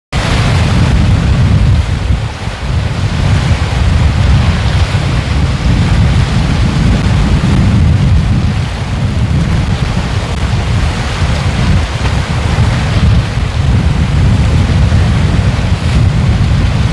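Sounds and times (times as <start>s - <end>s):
ocean waves washing on shore: 0.2s - 16.9s.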